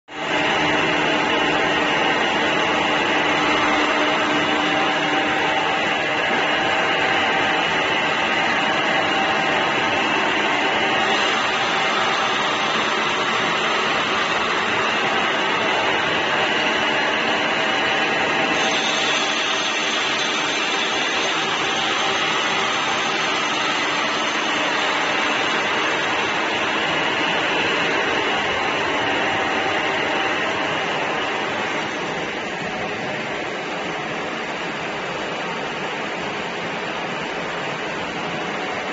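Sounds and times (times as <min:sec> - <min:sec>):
machinery whirring: 0:00.1 - 0:38.9.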